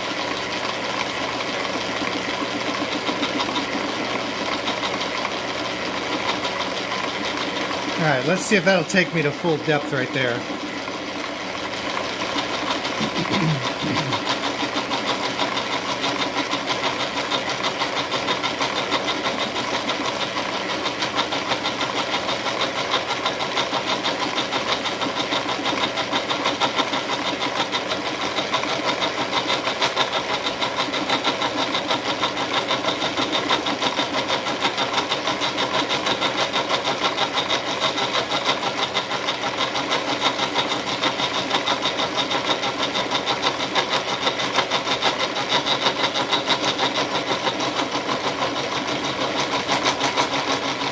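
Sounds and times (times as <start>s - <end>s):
milling machine cutting metal: 0.0s - 50.9s.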